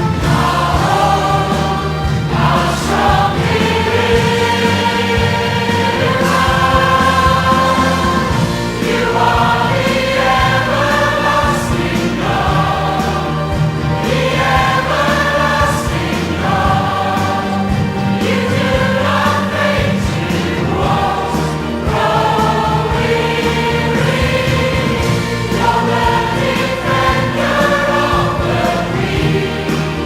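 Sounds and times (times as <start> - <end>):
choir singing worship song: 0.0 - 30.0.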